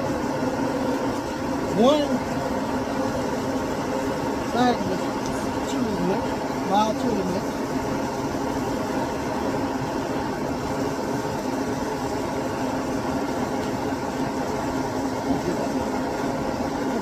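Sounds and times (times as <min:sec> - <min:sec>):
gas burner flame rushing: 0:00.0 - 0:17.0.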